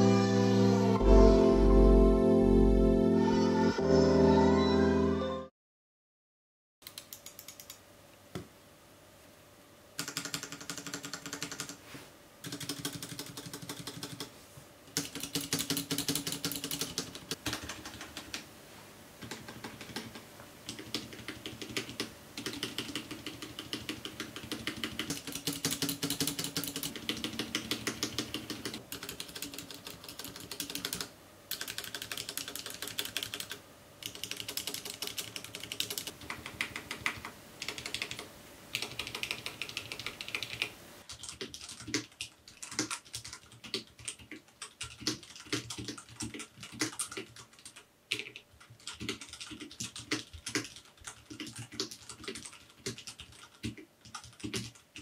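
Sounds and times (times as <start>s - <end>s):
dull quiet typing: 6.8s - 7.8s, 10.0s - 11.8s, 12.4s - 14.3s, 14.9s - 18.5s, 19.2s - 55.0s.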